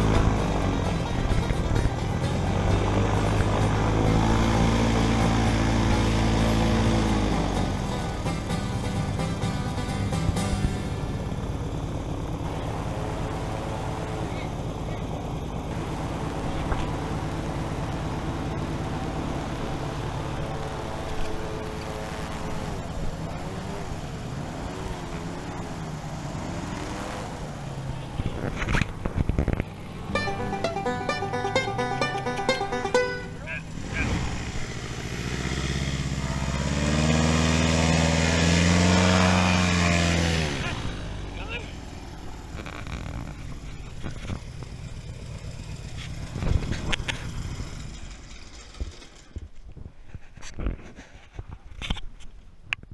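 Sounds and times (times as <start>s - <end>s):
airboat engine and propeller: 0.0s - 30.2s, 33.4s - 49.3s.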